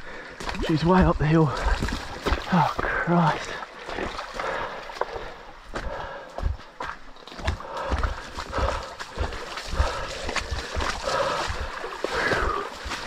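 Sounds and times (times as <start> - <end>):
man breathing heavily: 0.0 - 0.5, 1.5 - 13.0.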